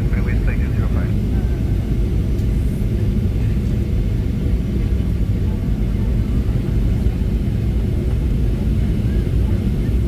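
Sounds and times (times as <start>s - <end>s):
airplane cabin low rumble: 0.0s - 10.0s.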